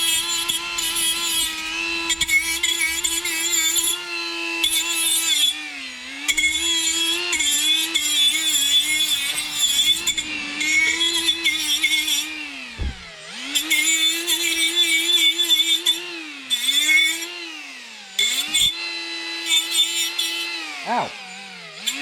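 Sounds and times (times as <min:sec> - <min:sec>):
angle grinder grinding metal: 0:00.0 - 0:22.0.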